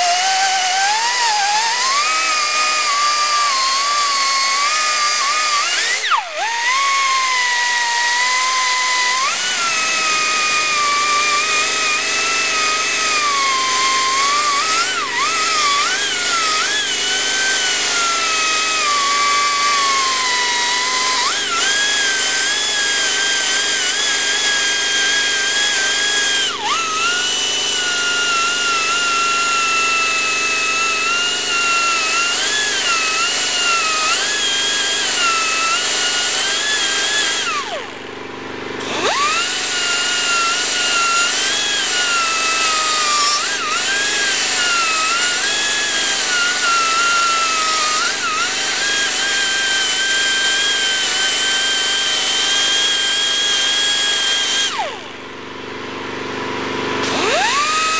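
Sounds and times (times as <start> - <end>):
air tool grinding plastic: 0.0 - 57.9.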